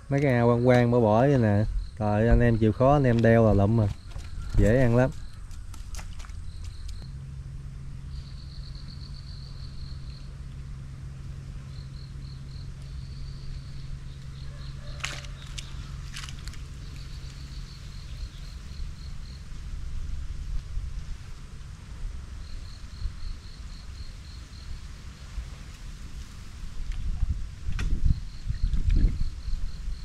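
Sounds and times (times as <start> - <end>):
insects trilling: 0.0 - 30.0
steady low hum: 0.0 - 30.0.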